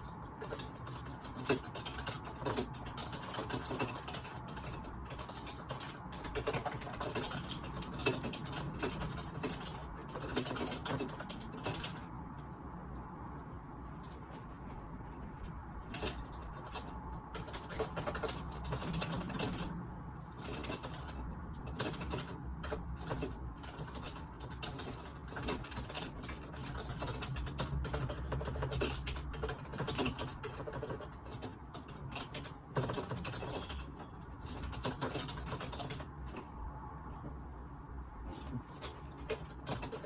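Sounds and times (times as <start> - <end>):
typing on a computer keyboard: 0.0 - 13.4, 15.1 - 36.6, 38.6 - 40.0.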